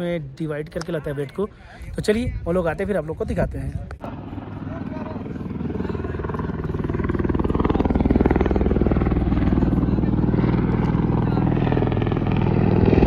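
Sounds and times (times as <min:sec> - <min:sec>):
helicopter rotor chop and engine: 0:00.6 - 0:13.0.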